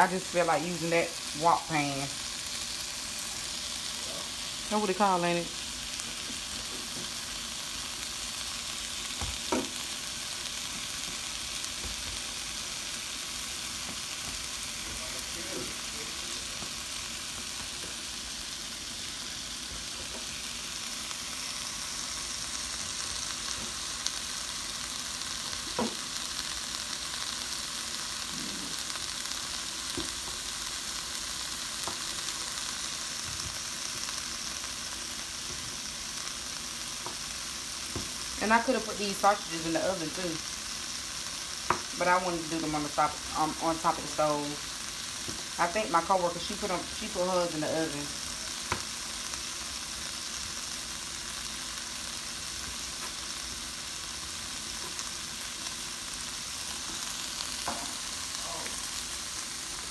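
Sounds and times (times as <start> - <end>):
vegetables sizzling in a wok: 0.0 - 59.9.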